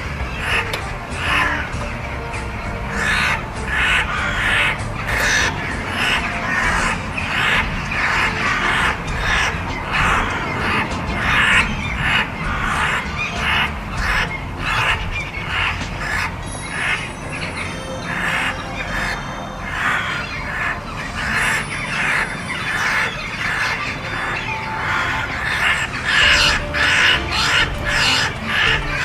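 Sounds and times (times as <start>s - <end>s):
crows cawing: 2.8s - 17.1s, 17.8s - 29.0s.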